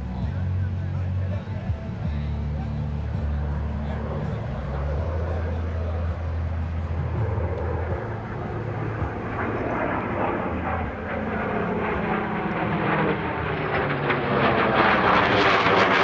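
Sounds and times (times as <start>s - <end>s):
jet engines overhead: 0.0s - 16.0s
propeller plane engine: 0.0s - 16.0s.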